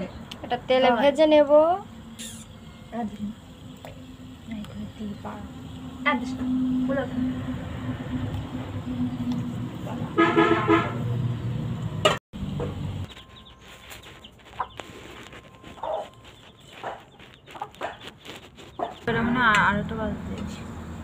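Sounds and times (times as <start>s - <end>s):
oil sizzling around frying dough: 0.0s - 21.0s.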